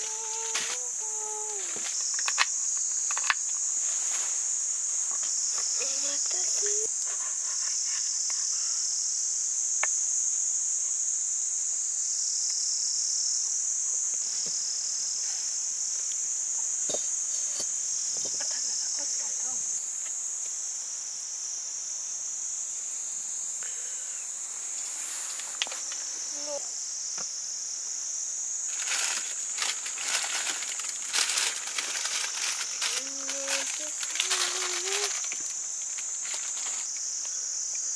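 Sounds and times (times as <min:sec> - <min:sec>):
insects shrilling: 0:00.0 - 0:37.9.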